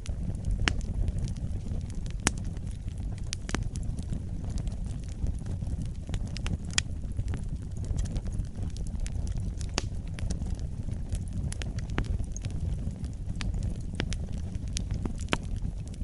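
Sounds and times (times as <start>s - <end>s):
fireplace fire crackling: 0.0s - 16.0s
low rumble of flames: 0.0s - 16.0s.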